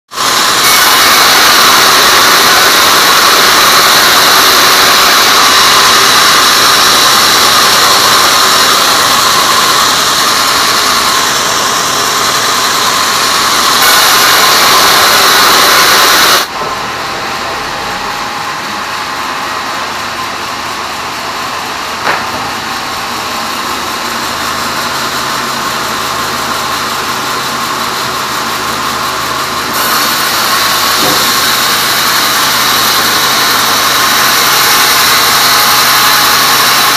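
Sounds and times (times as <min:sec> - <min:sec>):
band saw cutting wood: 0:00.1 - 0:36.9
saw machine humming: 0:00.1 - 0:36.9.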